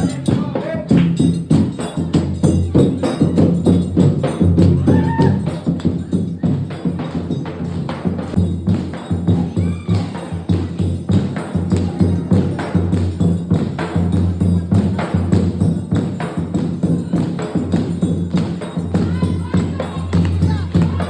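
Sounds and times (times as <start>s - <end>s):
fast busy percussion: 0.0s - 21.0s.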